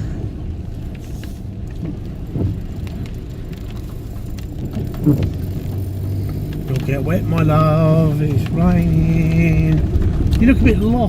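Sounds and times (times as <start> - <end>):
car engine and tyre noise: 0.0 - 11.0
faint ticks: 0.7 - 10.8.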